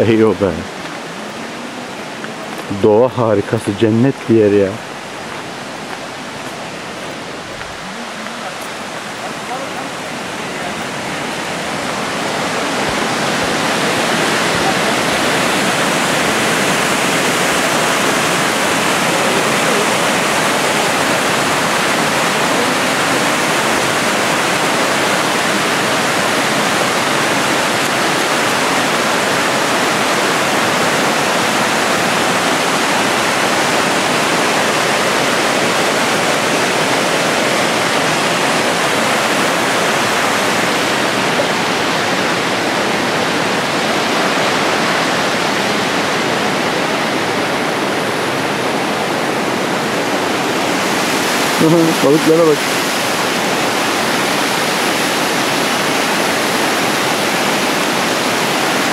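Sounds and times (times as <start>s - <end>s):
creek rushing over rocks: 0.0s - 58.9s.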